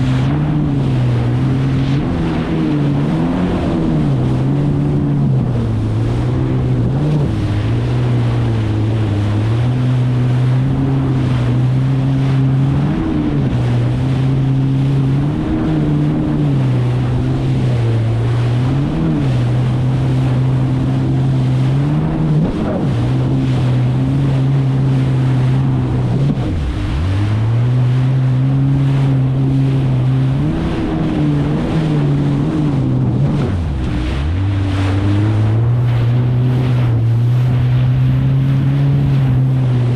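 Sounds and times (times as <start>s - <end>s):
jet ski engine running: 0.0s - 39.9s
water splashing against hull: 0.0s - 39.9s
wind on microphone: 0.0s - 39.9s.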